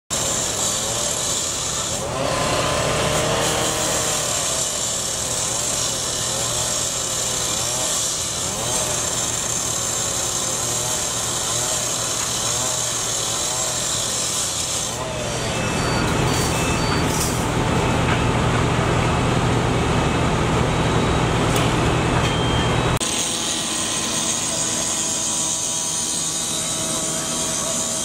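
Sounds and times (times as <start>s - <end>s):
cut-off saw grinding through steel: 0.1s - 17.7s, 23.0s - 28.0s.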